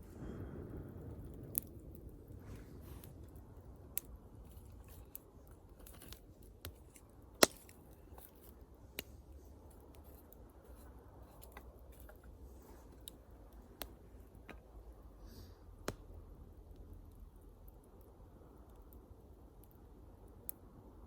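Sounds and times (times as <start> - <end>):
bonfire crackling and popping: 0.0 - 21.0
low rumble of burning: 0.0 - 21.0.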